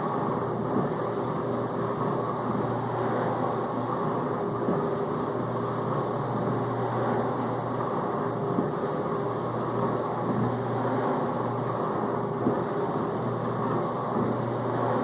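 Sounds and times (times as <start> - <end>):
dishwasher pump humming: 0.0 - 15.0.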